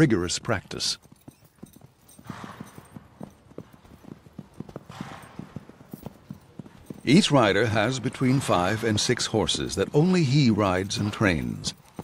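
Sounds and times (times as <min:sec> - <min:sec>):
hoofbeats on sand: 0:01.0 - 0:12.0.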